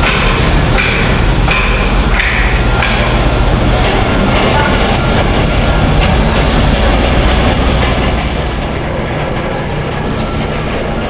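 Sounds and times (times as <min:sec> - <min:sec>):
construction machinery rumble: 0:00.0 - 0:11.0.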